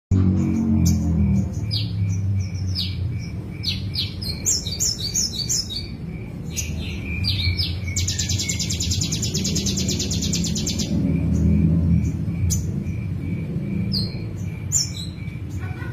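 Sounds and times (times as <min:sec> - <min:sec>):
songbird chirping and trilling: 0:00.1 - 0:15.9.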